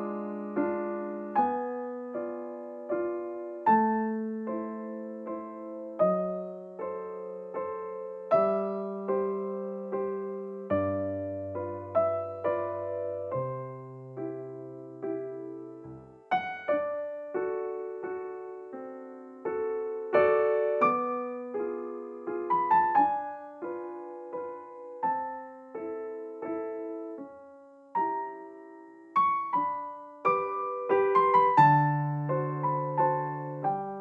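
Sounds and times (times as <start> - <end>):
soft piano music: 0.0 - 34.0.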